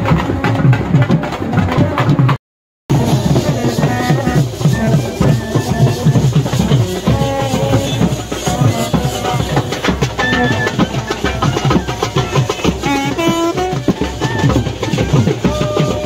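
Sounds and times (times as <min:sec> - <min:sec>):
brass band playing: 0:00.0 - 0:16.0
rapid drum beat: 0:00.0 - 0:16.0
horns playing wavering tune: 0:02.9 - 0:16.0.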